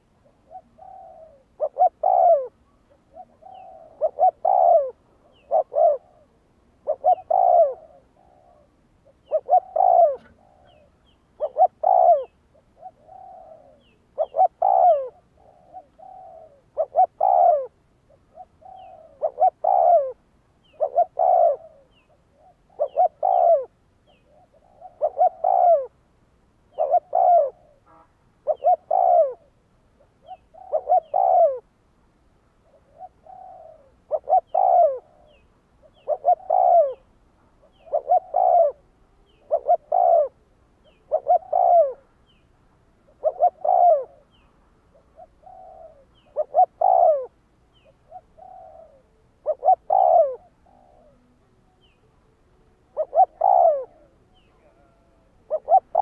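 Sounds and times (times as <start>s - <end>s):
dove cooing: 0.0s - 26.0s, 26.7s - 27.8s, 28.4s - 31.7s, 32.6s - 42.4s, 43.0s - 52.2s, 52.8s - 56.0s.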